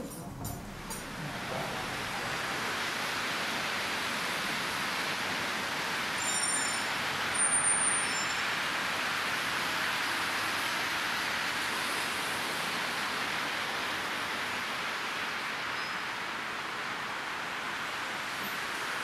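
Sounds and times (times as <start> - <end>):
road traffic hiss: 0.0 - 19.0.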